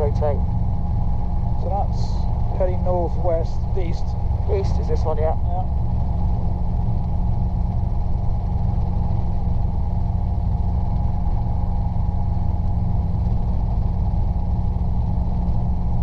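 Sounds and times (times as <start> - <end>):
helicopter engine and rotors: 0.0 - 16.0.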